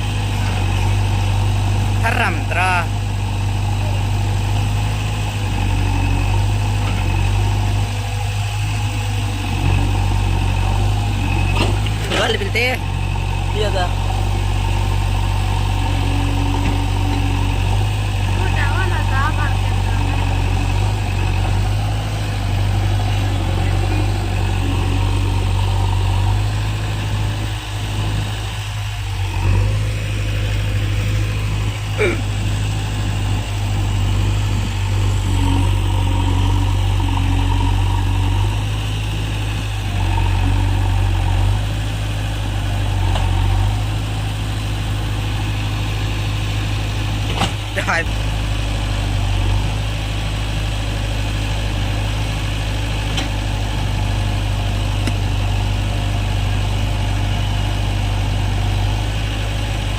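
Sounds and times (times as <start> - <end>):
diesel engine idling low: 0.0 - 59.9.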